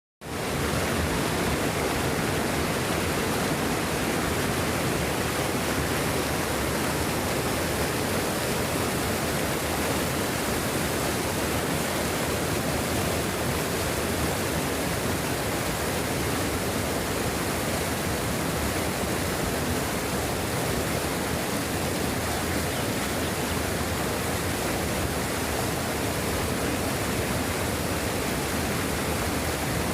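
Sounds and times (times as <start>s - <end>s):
rushing water: 0.2s - 29.9s.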